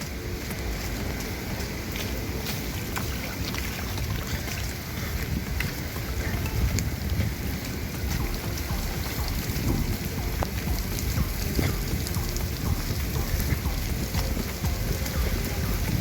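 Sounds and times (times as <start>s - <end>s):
low rumble: 0.0s - 16.0s
rain drops ticking: 0.0s - 16.0s
rain hiss: 0.0s - 16.0s.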